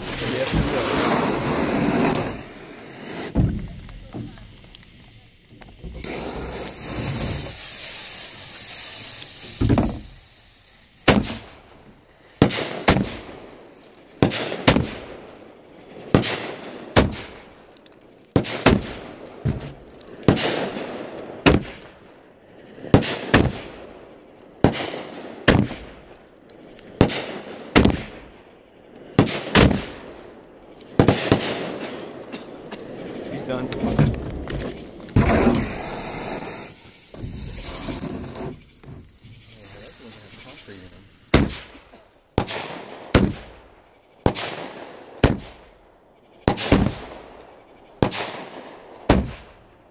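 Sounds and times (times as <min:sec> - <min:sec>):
fireworks hissing: 0:00.0 - 0:49.7
fireworks bangs: 0:00.0 - 0:49.9.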